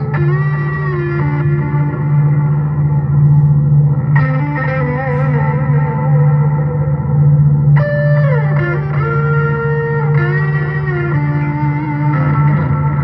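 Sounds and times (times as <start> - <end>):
fuzz guitar drone: 0.0 - 13.0
fuzzy guitar notes: 0.0 - 13.0.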